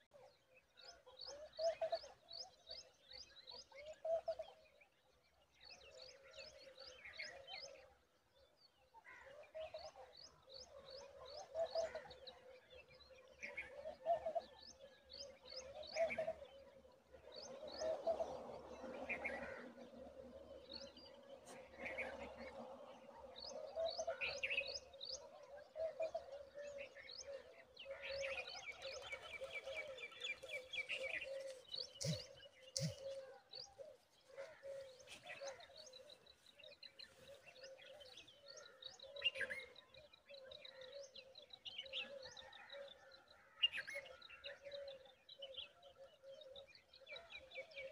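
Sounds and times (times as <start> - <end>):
songbirds chirping and trilling: 0.0 - 47.9.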